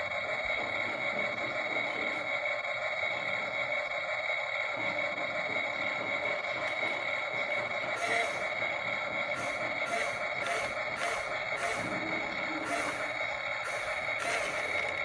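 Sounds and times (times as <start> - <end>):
toy excavator whining: 0.0 - 15.0.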